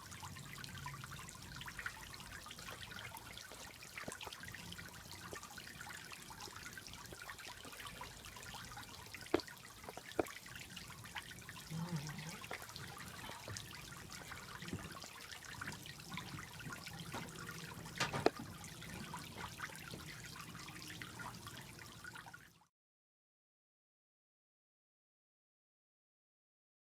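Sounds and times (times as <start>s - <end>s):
ticks and drips: 0.0s - 22.6s
fountain water trickling: 0.0s - 22.7s.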